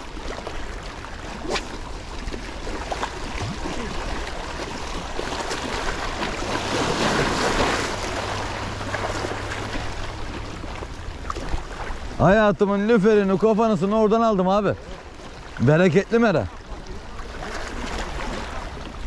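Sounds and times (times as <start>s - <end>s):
waves lapping against rocks: 0.0s - 19.0s.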